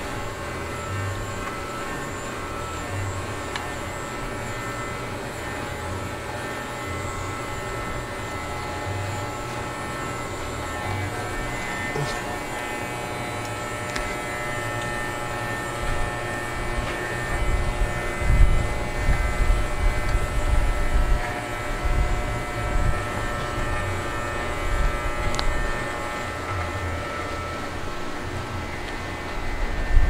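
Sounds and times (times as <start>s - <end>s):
electric clippers buzzing: 0.0s - 30.0s.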